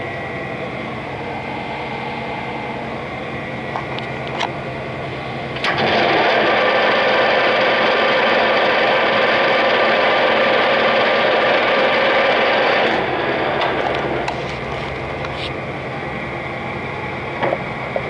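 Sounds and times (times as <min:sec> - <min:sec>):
lathe chuck whine: 0:00.0 - 0:18.0.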